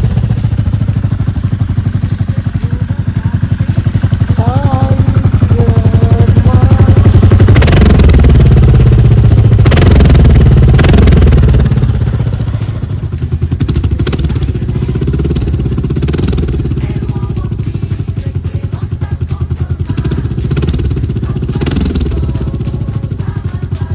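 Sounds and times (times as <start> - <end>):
motorcycle engine revving and idling: 0.0 - 23.9.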